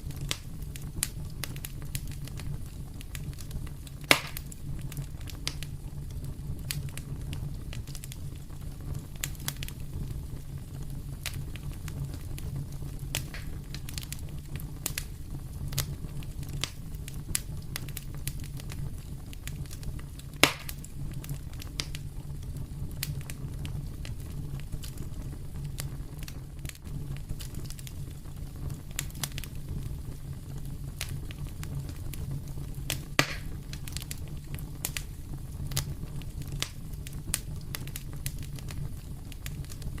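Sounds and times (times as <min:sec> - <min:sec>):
low rumble of flame: 0:00.0 - 0:40.0
wood fire crackling: 0:00.0 - 0:40.0.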